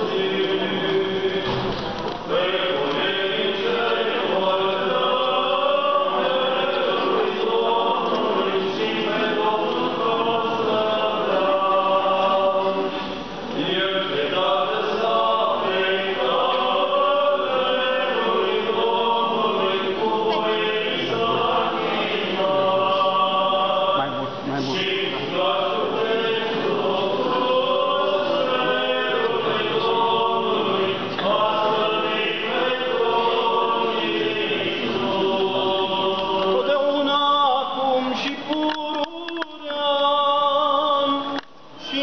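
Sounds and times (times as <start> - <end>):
church choir chanting: 0.0 - 38.3.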